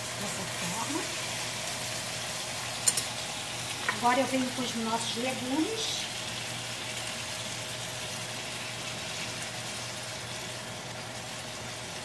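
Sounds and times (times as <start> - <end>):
fish and onion sizzling in oil: 0.0 - 12.0.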